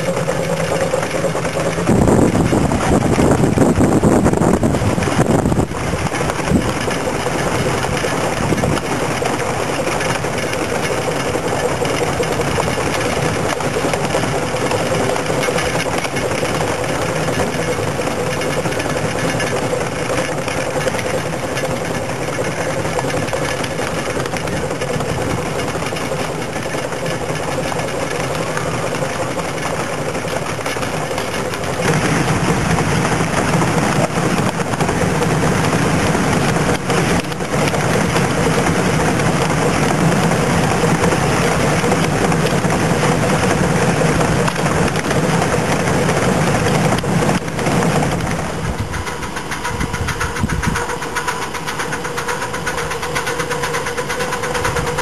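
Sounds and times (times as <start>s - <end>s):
train wheels running on rails: 0.0s - 55.0s.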